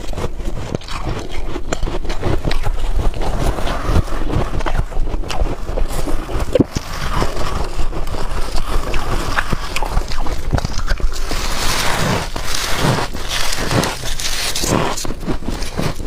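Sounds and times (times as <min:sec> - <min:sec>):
frost crunching: 0:00.0 - 0:16.0.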